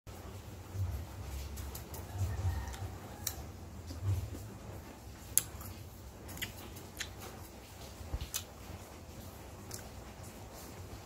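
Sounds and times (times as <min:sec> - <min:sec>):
crunching of mango being chewed: 0:00.9 - 0:10.9.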